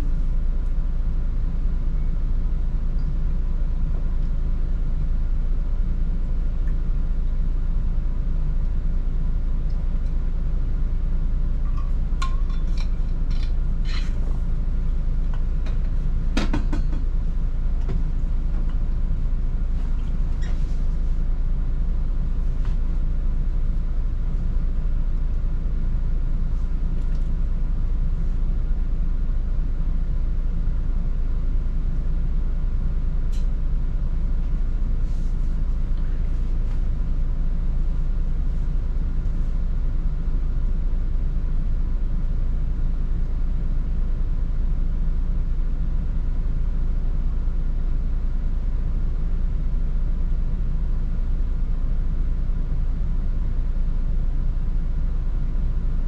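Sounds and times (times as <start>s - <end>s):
bus engine and road drone: 0.0s - 56.0s.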